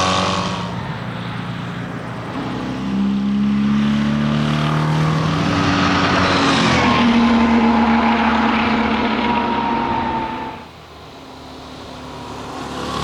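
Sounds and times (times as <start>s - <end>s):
small engine running hard: 0.0s - 10.7s, 11.3s - 13.0s.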